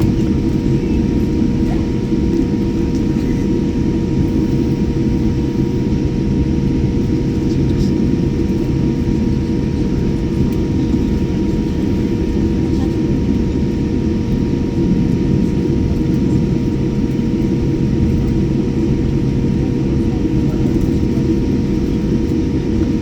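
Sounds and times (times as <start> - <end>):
airliner engines rumbling: 0.0 - 23.0
constant hum: 0.0 - 23.0.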